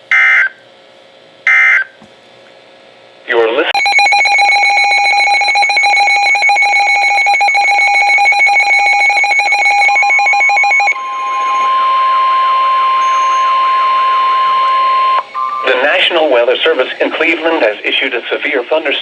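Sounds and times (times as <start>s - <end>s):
steady warning alarm tone: 0.1s - 0.6s, 1.5s - 2.0s, 3.8s - 19.0s
weather alert radio rapid beeping: 3.8s - 19.0s.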